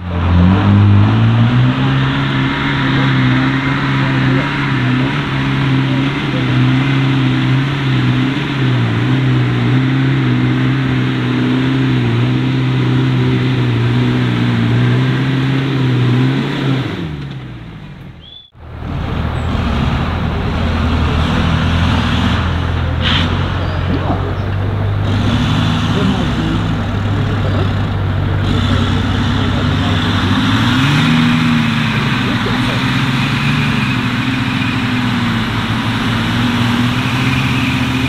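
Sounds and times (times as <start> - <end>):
engine revving: 0.0 - 38.0.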